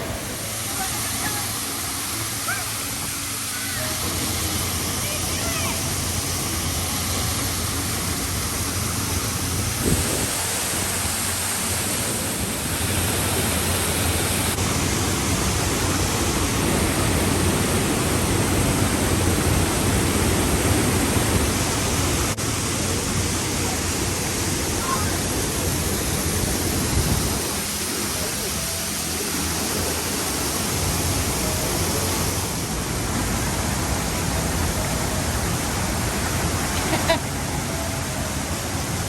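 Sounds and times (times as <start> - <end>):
rushing mountain water: 0.0 - 39.0.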